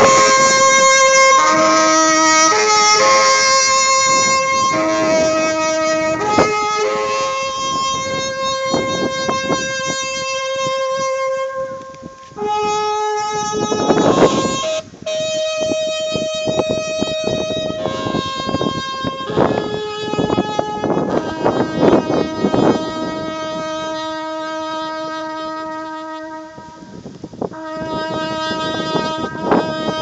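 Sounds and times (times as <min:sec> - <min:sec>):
wind instrument slow melody: 0:00.0 - 0:30.0.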